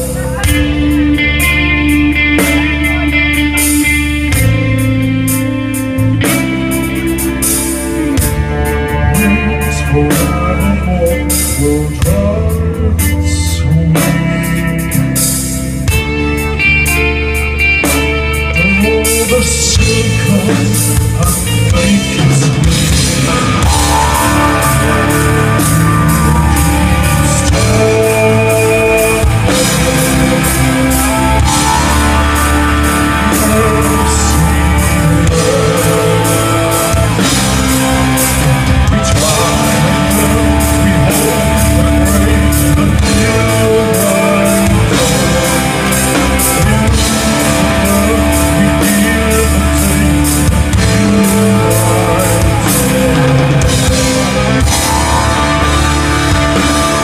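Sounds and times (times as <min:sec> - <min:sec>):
drum kit beat: 0:00.0 - 0:57.0
guitar: 0:00.0 - 0:57.0
man singing: 0:00.0 - 0:57.0
rock band playing: 0:00.0 - 0:57.0.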